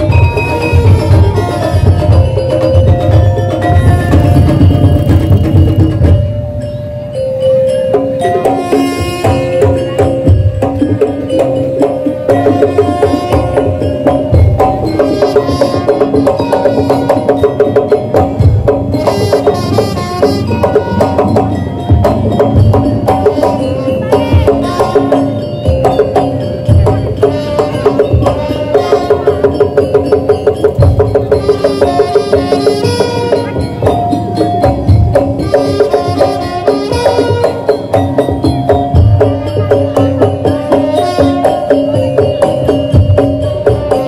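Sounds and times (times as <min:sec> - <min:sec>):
melody line: 0:00.0 - 0:44.0
percussion ensemble drumming: 0:00.0 - 0:44.0.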